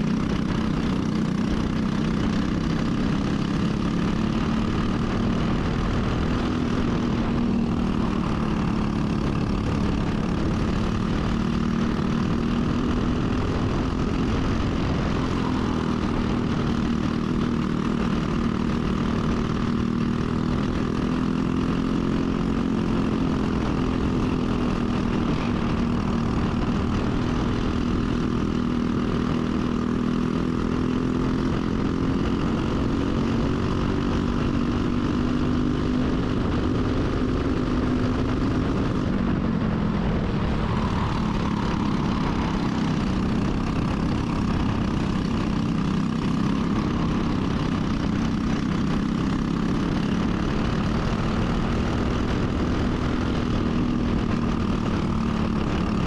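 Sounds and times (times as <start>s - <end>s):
kart engine running: 0.0s - 56.0s.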